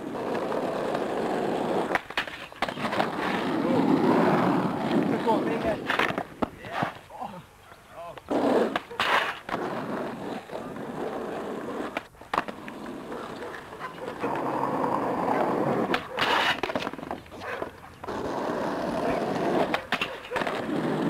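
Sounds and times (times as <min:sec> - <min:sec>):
skateboard clacks and scrapes: 0:00.0 - 0:07.0, 0:08.2 - 0:21.0
skateboard wheels rolling on asphalt: 0:00.0 - 0:07.2, 0:08.0 - 0:21.0.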